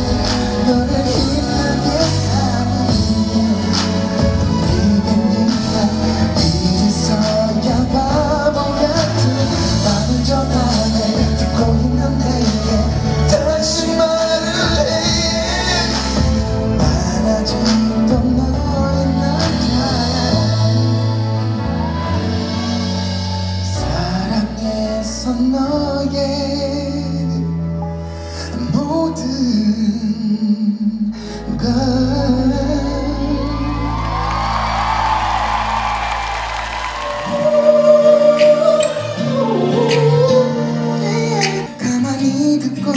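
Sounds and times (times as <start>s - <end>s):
band playing with bass line: 0.0s - 27.8s, 28.7s - 42.9s
man singing into microphone: 0.0s - 34.7s, 37.1s - 42.9s.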